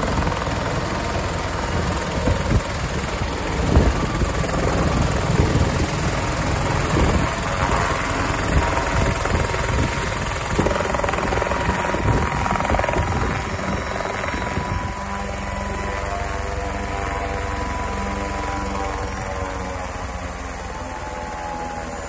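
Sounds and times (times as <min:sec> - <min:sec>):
helicopter rotor whine: 0:00.0 - 0:22.0.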